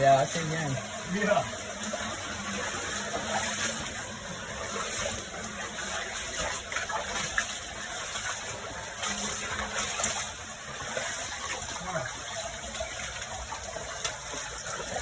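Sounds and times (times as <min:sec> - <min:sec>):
water gushing in cave: 0:00.0 - 0:15.0.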